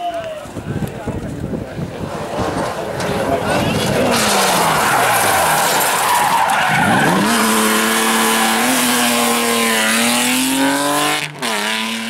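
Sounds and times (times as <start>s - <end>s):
tyres skidding: 0.4s - 12.0s
rally car engine revving: 1.5s - 12.0s.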